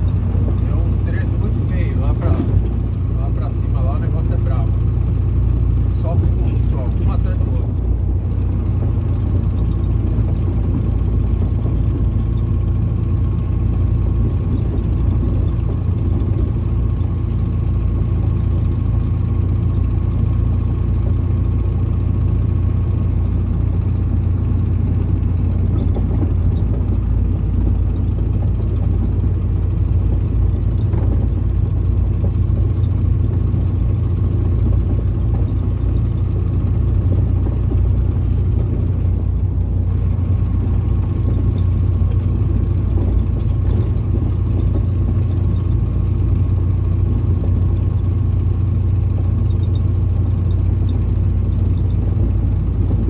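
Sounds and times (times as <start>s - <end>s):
truck diesel engine rumbling: 0.0s - 53.0s.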